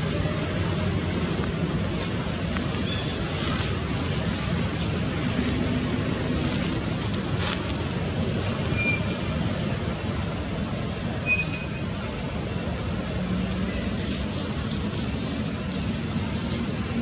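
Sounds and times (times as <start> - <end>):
outdoor rumble and hiss: 0.0 - 17.0.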